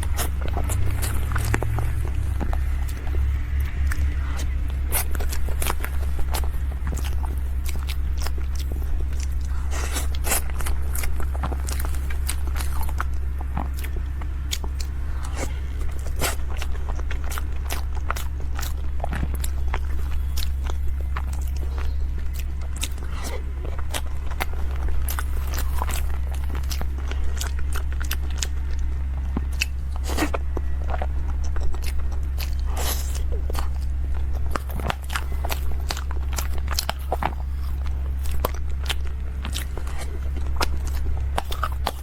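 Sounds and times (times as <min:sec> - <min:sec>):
person biting and chewing: 0:00.0 - 0:42.0
steady low hum: 0:00.0 - 0:42.0.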